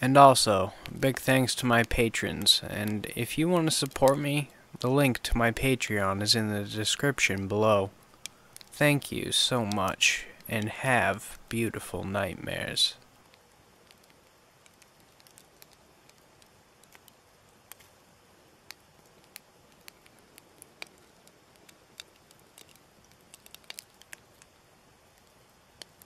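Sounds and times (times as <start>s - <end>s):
crackling clicks and pops: 0.0s - 26.0s
low steady hiss: 0.0s - 26.0s.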